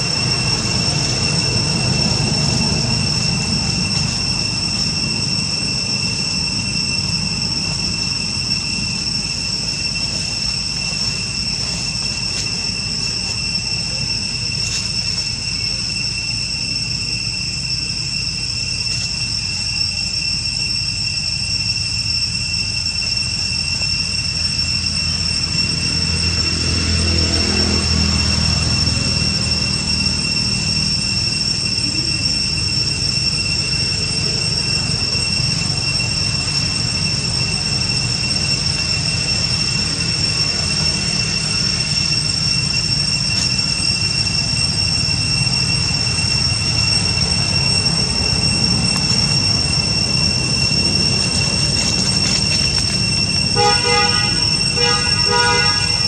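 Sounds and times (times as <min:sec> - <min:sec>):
high-pitched two-tone whine: 0:00.0 - 0:56.0.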